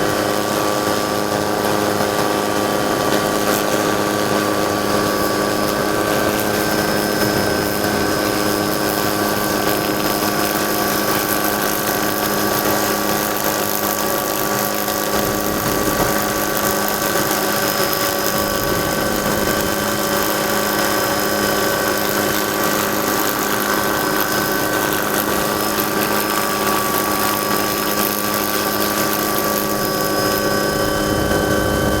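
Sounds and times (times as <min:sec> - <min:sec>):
helicopter engine drone: 0:00.0 - 0:32.0
high-pitched whining tones: 0:02.8 - 0:32.0.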